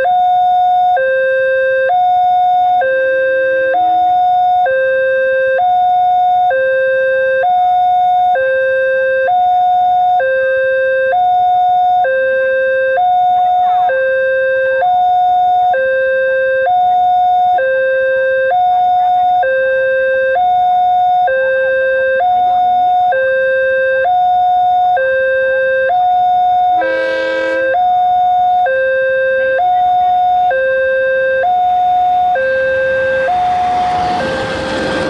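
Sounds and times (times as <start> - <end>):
two-tone electronic crossing alarm: 0.0 - 35.0.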